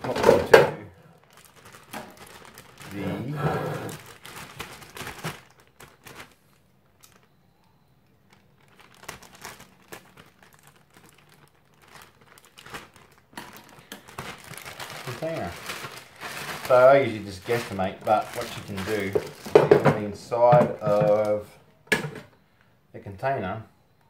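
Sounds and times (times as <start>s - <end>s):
plastic bag crinkling: 0.0s - 21.5s.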